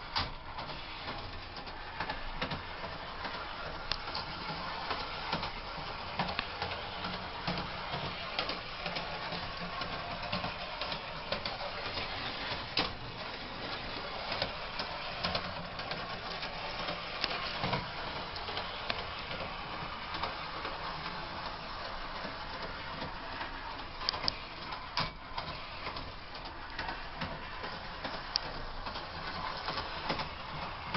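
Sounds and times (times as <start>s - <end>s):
model train motor whirring: 0.0s - 30.9s.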